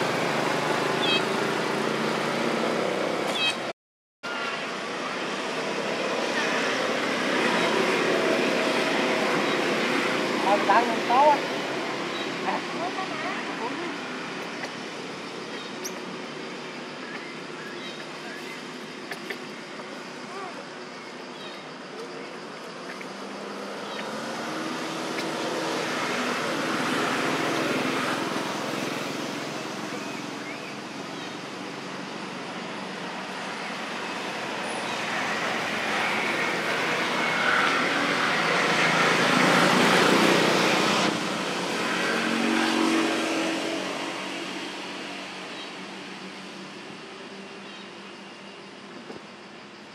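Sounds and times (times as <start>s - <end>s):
road traffic passing: 0.0s - 49.9s.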